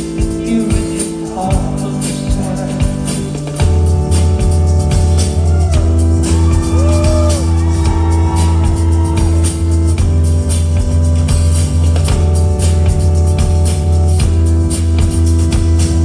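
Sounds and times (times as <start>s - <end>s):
bass line: 0.0s - 16.0s
drums keeping time: 0.0s - 16.0s
rock band playing slow song: 0.0s - 16.0s.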